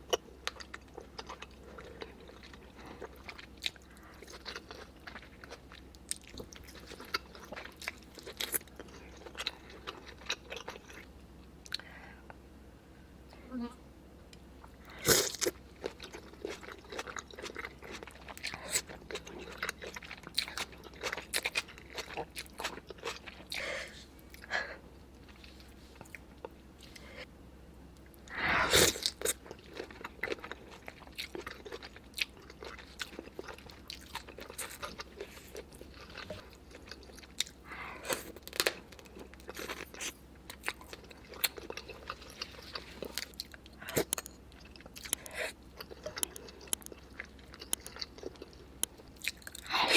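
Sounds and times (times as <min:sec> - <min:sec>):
person chewing crunchy food: 0:00.0 - 0:11.8, 0:14.6 - 0:24.5, 0:28.0 - 0:49.9.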